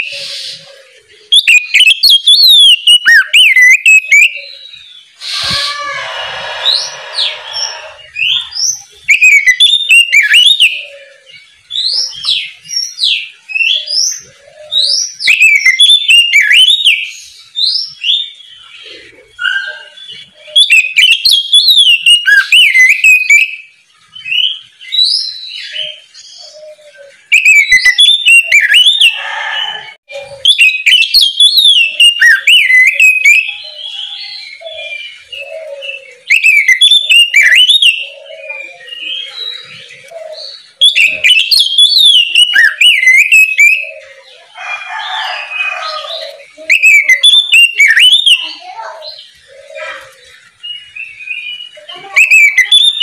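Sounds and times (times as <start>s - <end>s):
bird whistled song: 0.0s - 44.4s, 45.1s - 53.0s
bird twittering: 0.0s - 53.0s.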